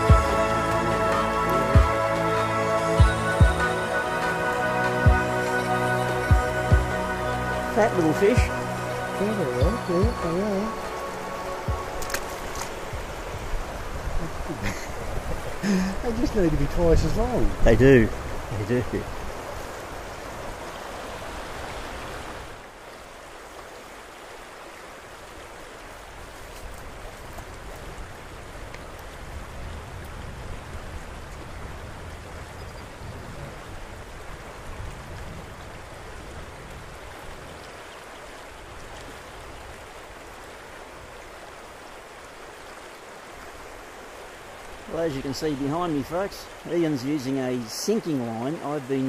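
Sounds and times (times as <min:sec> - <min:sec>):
river rushing over rocks: 0:00.0 - 0:29.8, 0:35.4 - 0:49.0.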